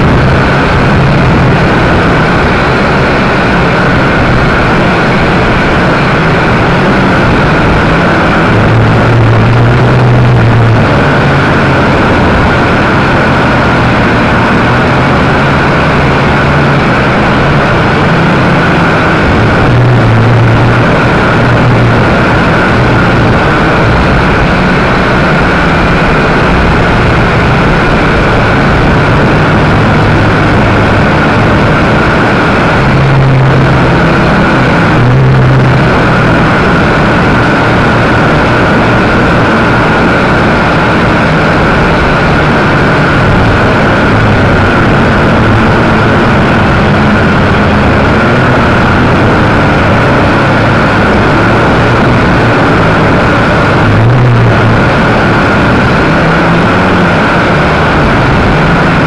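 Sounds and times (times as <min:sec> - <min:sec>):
low hum: 0:00.0 - 0:59.0
rushing noise: 0:00.0 - 0:59.0.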